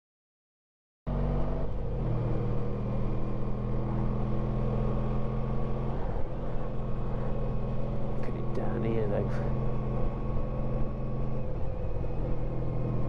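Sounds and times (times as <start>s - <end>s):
wind and road noise: 1.1s - 13.0s
motorcycle engine running: 1.8s - 13.0s.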